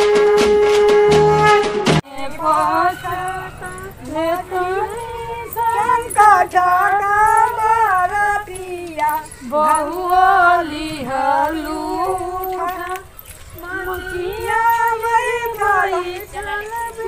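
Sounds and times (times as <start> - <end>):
women singing unaccompanied: 2.0 - 17.0.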